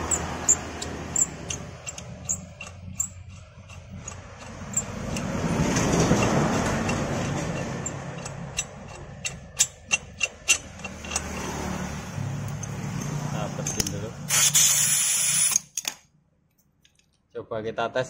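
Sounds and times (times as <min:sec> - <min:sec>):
passing vehicle engine: 0:00.0 - 0:14.5
sharp metal clicks: 0:00.0 - 0:14.5.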